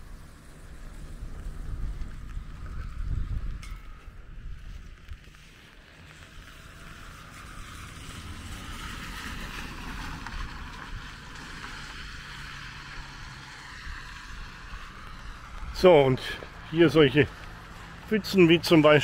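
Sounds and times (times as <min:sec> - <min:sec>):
tyres hissing on wet road: 0:00.0 - 0:03.4, 0:05.0 - 0:19.0
low engine rumble: 0:00.0 - 0:19.0.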